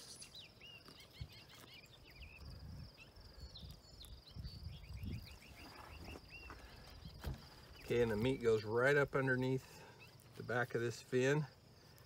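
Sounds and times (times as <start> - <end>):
bird chirping: 0.0 - 10.9.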